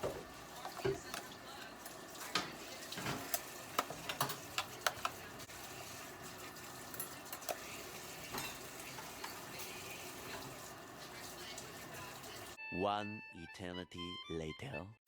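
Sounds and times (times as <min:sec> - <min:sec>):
utensils and dishes clinking: 0:00.0 - 0:12.6.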